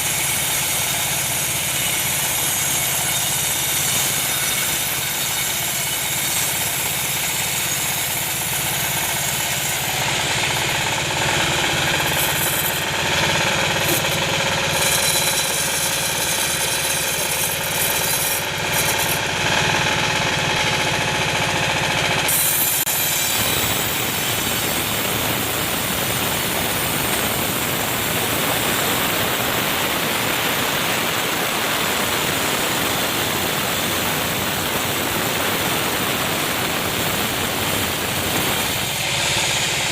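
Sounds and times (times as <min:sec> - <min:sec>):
machinery humming: 0:04.8 - 0:39.9.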